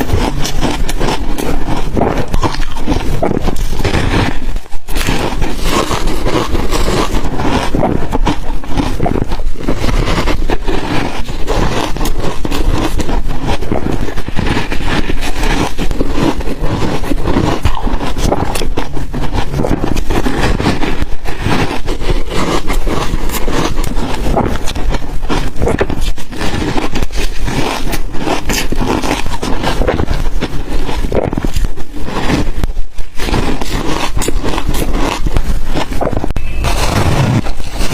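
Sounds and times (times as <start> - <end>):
ice crunching being chewed: 0.0 - 37.9.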